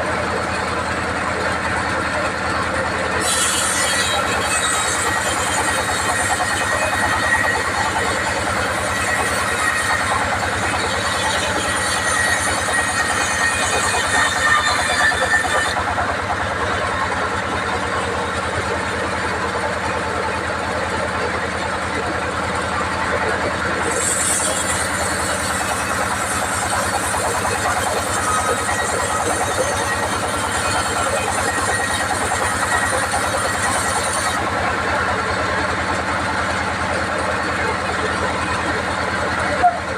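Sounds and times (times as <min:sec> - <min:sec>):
band saw machinery running: 0:00.0 - 0:39.9.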